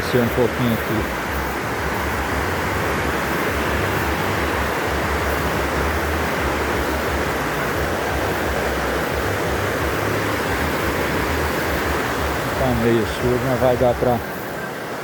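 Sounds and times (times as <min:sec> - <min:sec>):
waterfall rushing water: 0:00.0 - 0:15.0.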